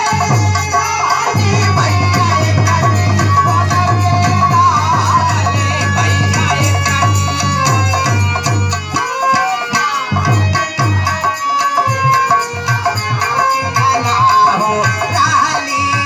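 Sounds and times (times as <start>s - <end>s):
hand drum beating: 0.0s - 16.0s
held melody line: 0.0s - 16.0s.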